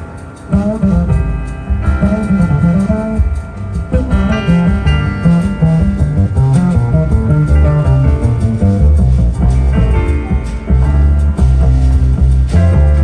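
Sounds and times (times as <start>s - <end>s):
instrumental music with bass line: 0.0s - 13.0s.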